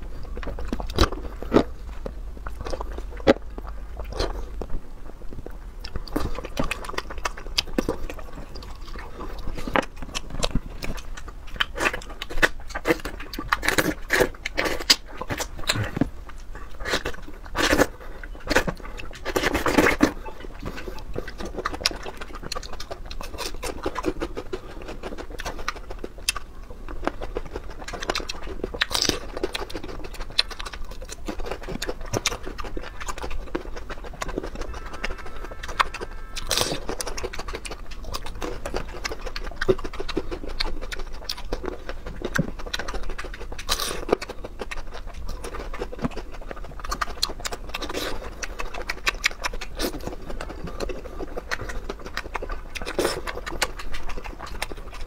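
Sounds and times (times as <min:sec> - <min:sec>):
man chewing food: 0:00.0 - 0:55.0
wet mouth clicks and squelches: 0:05.8 - 0:55.0.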